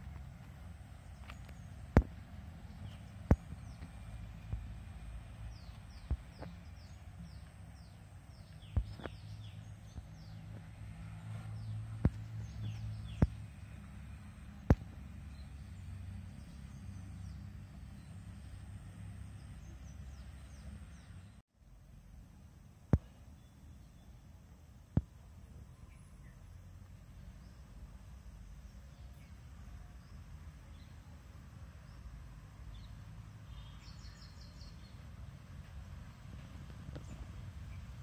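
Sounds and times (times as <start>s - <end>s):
small birds chirping: 0.0s - 21.4s, 22.9s - 38.0s.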